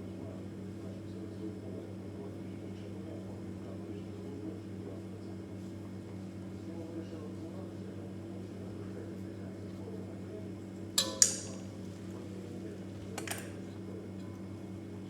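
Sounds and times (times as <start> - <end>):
steady low hum: 1.1 - 15.0.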